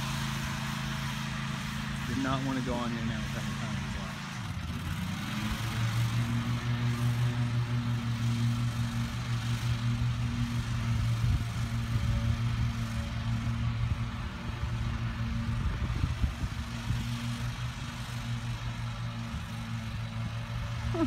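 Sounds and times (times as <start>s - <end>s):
riding lawn mower engine: 0.0s - 21.0s.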